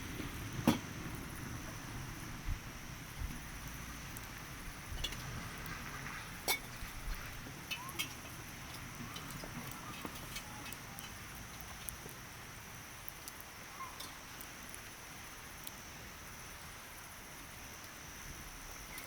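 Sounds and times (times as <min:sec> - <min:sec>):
campfire hissing: 0:00.0 - 0:19.0
wood crackling and popping: 0:00.0 - 0:19.0.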